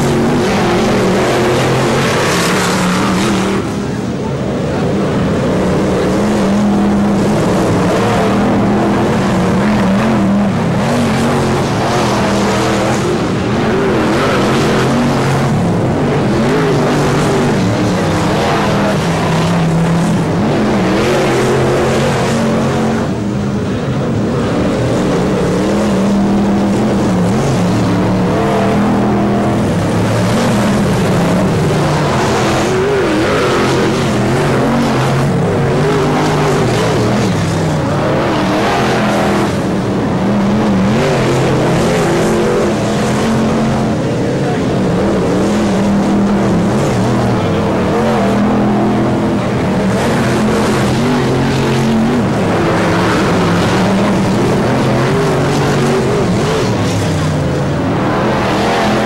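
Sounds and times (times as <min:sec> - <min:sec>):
race car engines running hard: 0:00.0 - 0:59.0.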